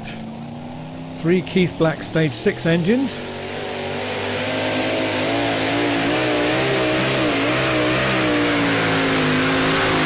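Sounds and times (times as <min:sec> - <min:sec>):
tractor engines at full throttle: 0:00.0 - 0:10.0.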